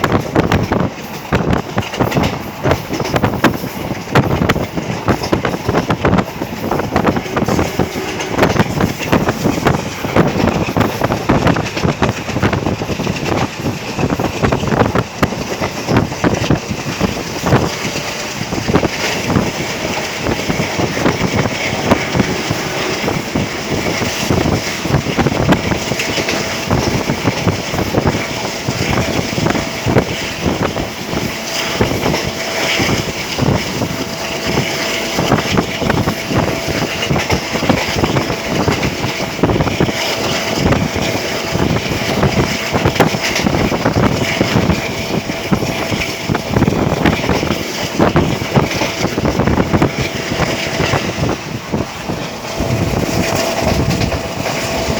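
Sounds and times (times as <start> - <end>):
train rumbling and rattling on track: 0.0 - 54.9
wind buffeting microphone: 0.0 - 54.9.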